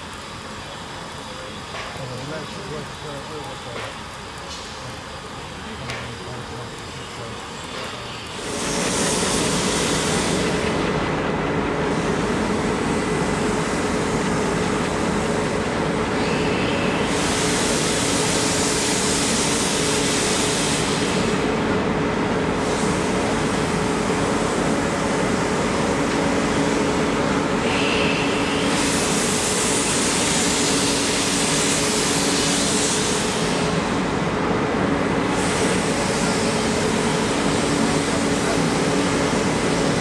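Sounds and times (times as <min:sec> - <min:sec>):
loud steam hiss: 0:00.0 - 0:40.0
steam locomotive working: 0:00.0 - 0:40.0.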